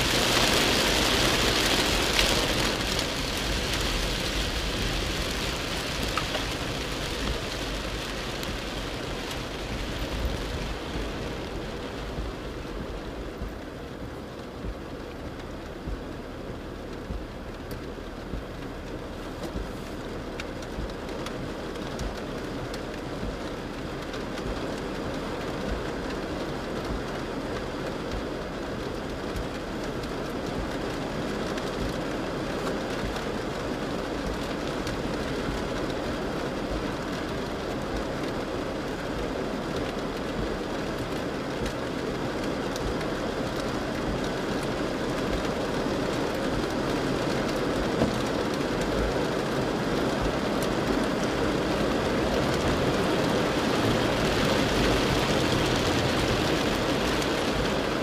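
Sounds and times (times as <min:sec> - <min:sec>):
heavy rain drumming on car roof: 0:00.0 - 0:58.0.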